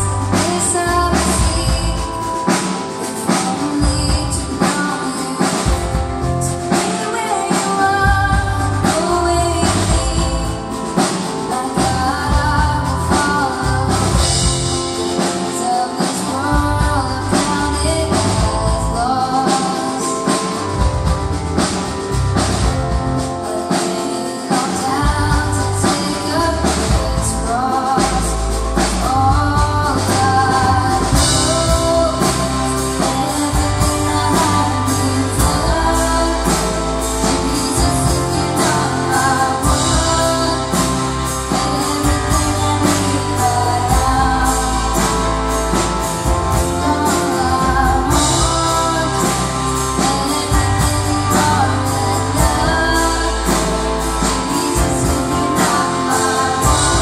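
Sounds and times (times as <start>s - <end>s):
acoustic guitar: 0.0s - 57.0s
drum kit beat: 0.0s - 57.0s
person singing: 0.0s - 57.0s.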